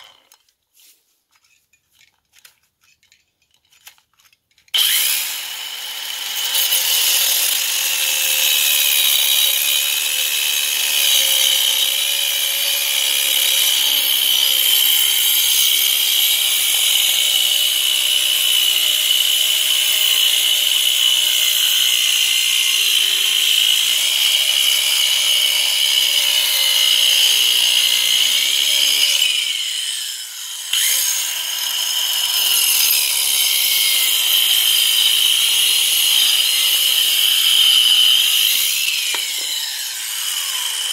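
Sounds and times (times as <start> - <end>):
angle grinder cutting brick: 0.0 - 0.4, 4.7 - 40.9.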